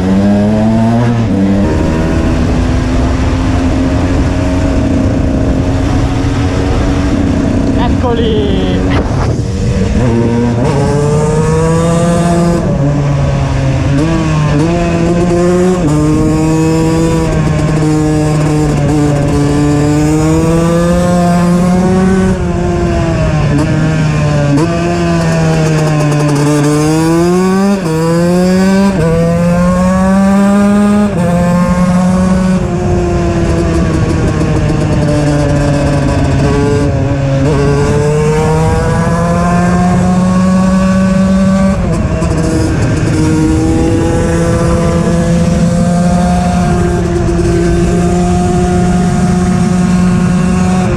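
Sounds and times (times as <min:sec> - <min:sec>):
two-stroke motorcycle engine revving: 0:00.0 - 0:50.9.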